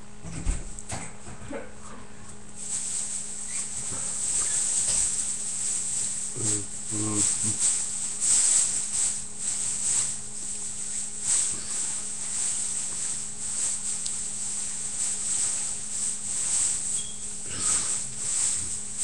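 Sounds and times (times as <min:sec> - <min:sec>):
low electrical hum: 0:00.0 - 0:19.0
insects chirring: 0:02.6 - 0:19.0.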